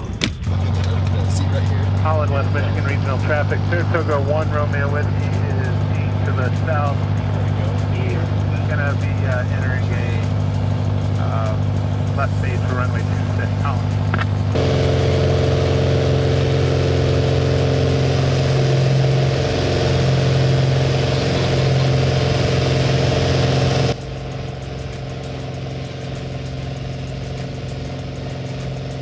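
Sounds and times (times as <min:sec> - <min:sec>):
airplane engine and propeller: 0:00.0 - 0:29.0
thin airplane engine drone: 0:00.0 - 0:29.0.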